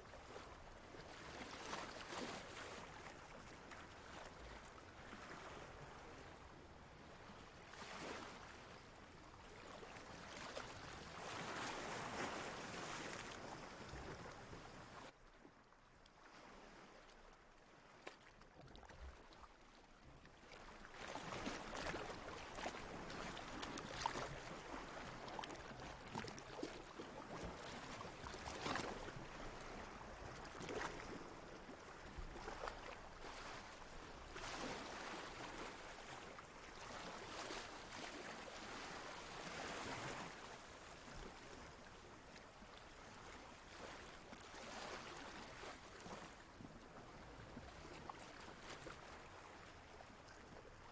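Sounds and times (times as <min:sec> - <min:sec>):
water lapping and splashing: 0:00.0 - 0:50.9.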